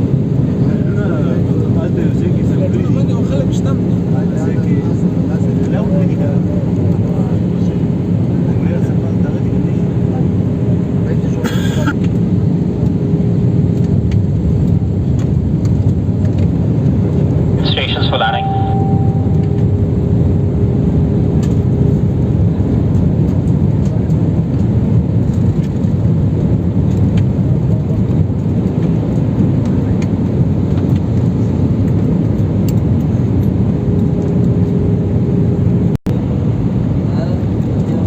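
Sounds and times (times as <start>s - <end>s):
airliner cabin engine noise: 0.0s - 38.0s.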